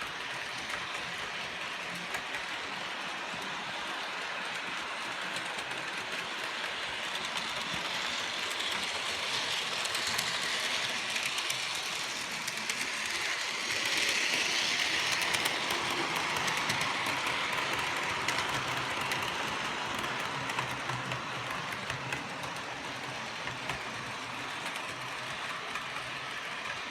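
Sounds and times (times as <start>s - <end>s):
wheels clicking over rail joints: 4.6s - 26.9s.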